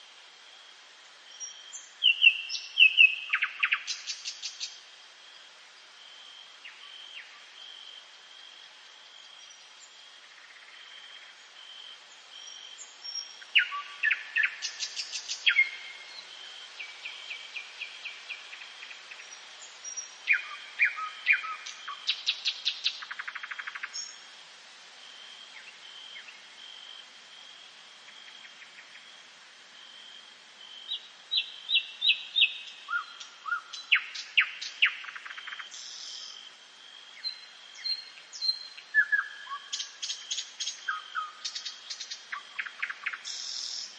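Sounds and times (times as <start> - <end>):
songbirds dawn chorus: 0.0 - 43.9.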